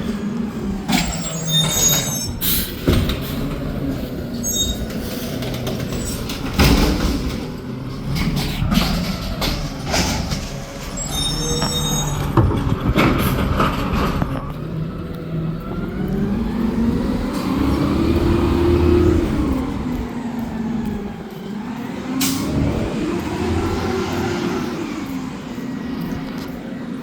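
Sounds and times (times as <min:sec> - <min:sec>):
garbage truck clanks and knocks: 0:00.0 - 0:25.4
truck engine revving: 0:00.0 - 0:27.0.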